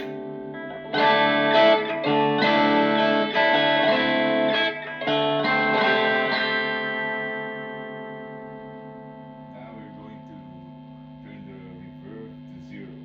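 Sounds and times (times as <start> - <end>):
electric guitar chords strummed: 0.0 - 13.0.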